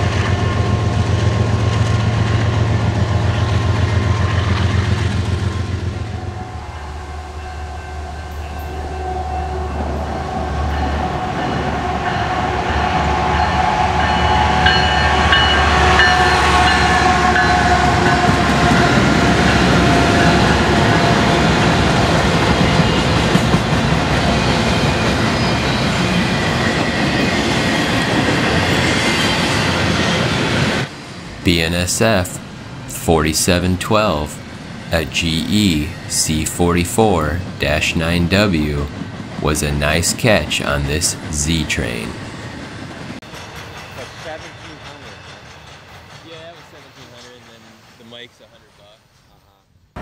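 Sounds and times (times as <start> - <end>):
diesel locomotive rumble: 0.0 - 43.2
train rolling along rails: 0.0 - 50.0.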